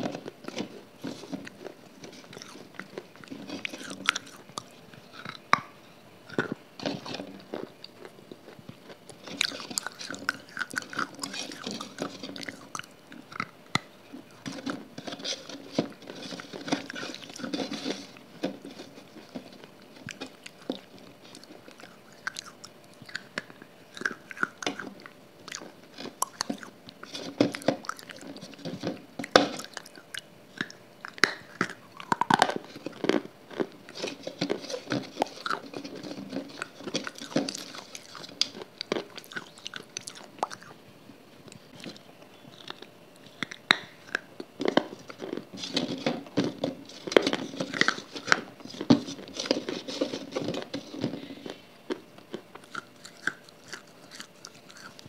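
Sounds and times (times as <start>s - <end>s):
person chewing: 0.0s - 40.8s, 41.5s - 45.9s, 46.9s - 55.0s.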